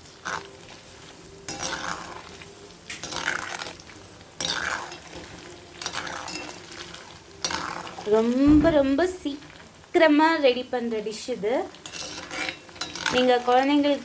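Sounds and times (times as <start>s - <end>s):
food deep-frying in hot oil: 0.0s - 14.0s
stirring in a pan: 0.0s - 14.0s.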